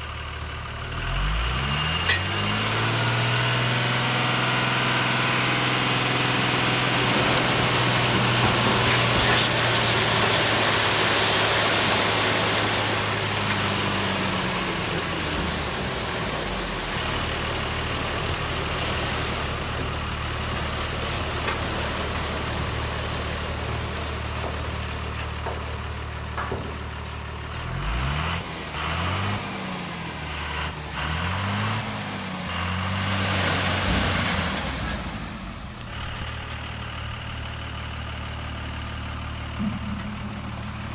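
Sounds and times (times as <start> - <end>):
engine idling and revving: 0.0 - 40.9.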